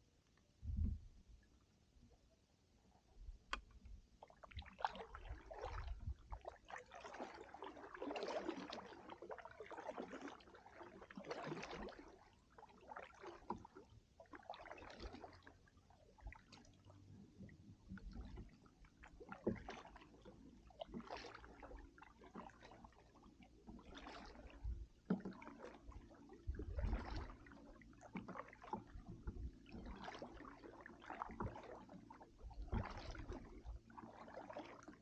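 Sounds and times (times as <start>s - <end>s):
kayak paddle splashing: 3.5s - 35.0s.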